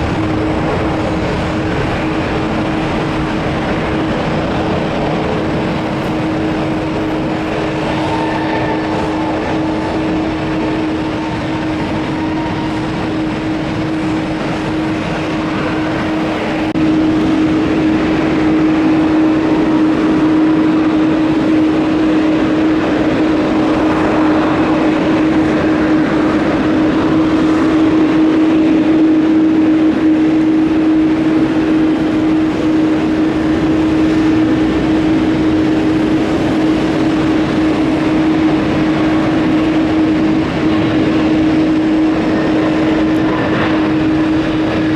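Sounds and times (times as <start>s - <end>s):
jet engines droning: 0.0s - 44.9s.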